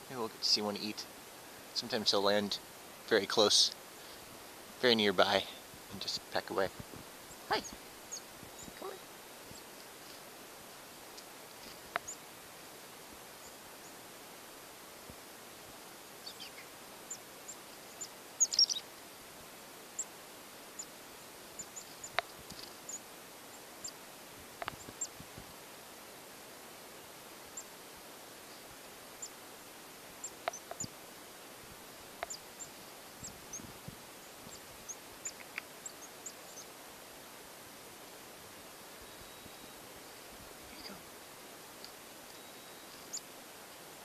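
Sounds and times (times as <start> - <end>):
chickadee calls: 0.0 - 9.8, 10.8 - 14.8, 15.8 - 19.1, 19.8 - 25.4, 27.4 - 36.9, 38.7 - 43.4
faint hiss: 0.0 - 44.0.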